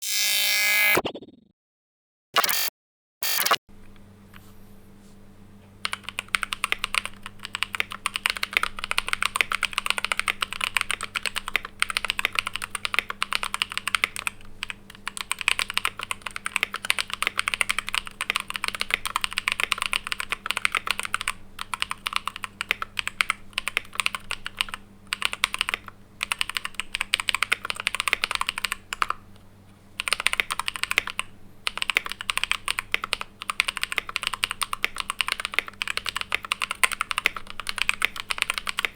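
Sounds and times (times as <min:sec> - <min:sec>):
typing on mechanical keyboard: 0:05.8 - 0:29.2, 0:30.0 - 0:38.9.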